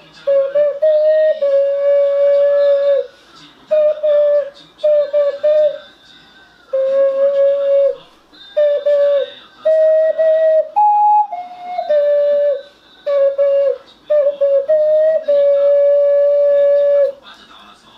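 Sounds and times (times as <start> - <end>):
slow ocarina melody: 0.1 - 6.0, 6.7 - 17.2.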